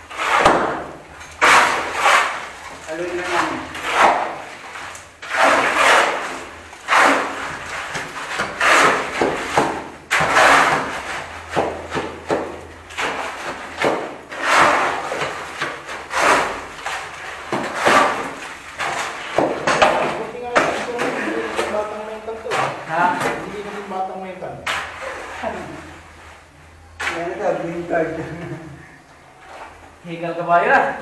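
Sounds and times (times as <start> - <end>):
shovels scraping concrete: 0.0 - 29.9.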